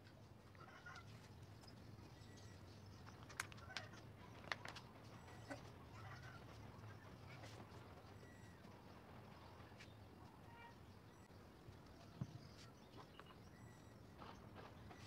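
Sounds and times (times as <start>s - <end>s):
faint bird calls: 0.5s - 15.0s.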